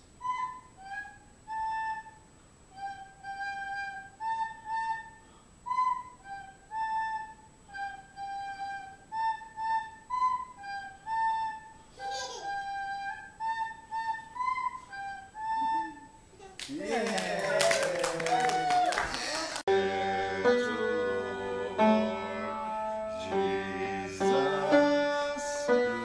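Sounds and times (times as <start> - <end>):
flute-like melody: 0.2 - 16.2, 19.7 - 26.0.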